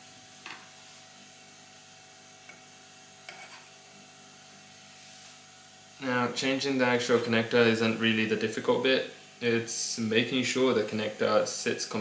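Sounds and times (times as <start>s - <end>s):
faint hum of bench equipment: 0.0s - 12.0s.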